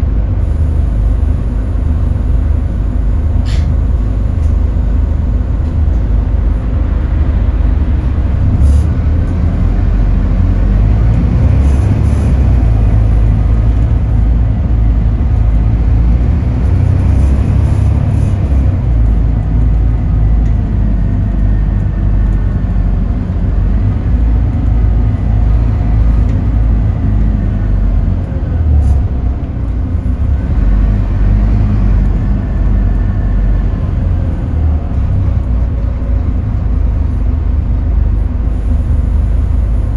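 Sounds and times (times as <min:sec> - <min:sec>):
bus engine rumble: 0:00.0 - 0:39.9
rising engine whine: 0:00.0 - 0:39.9.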